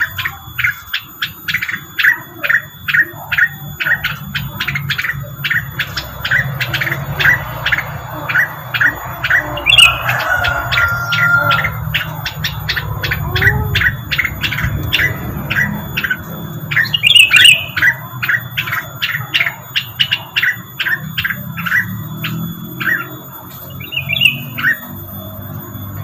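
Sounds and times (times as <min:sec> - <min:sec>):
bird chirping and warbling: 0:00.0 - 0:26.0.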